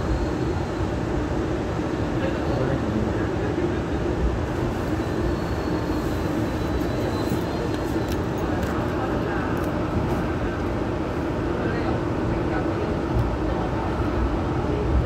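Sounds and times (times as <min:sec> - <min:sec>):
rumble of train wheels: 0:00.0 - 0:15.0.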